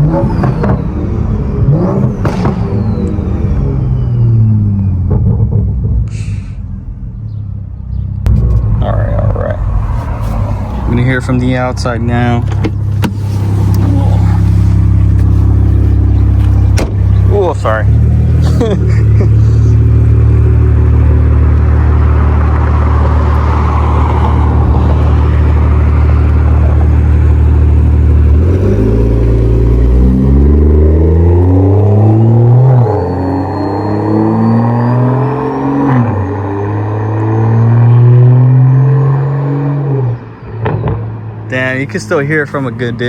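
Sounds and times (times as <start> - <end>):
car engine droning: 0.0 - 43.0.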